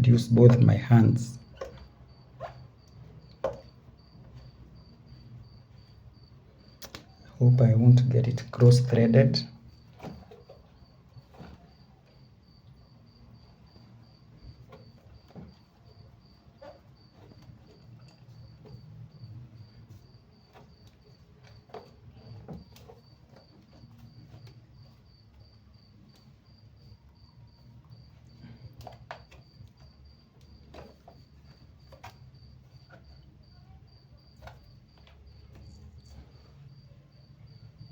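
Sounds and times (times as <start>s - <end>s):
cricket chirping: 0.0s - 37.9s.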